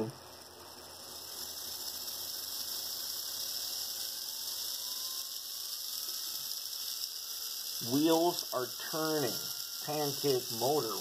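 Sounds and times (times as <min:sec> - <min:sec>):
small electric motor running: 0:00.0 - 0:11.0.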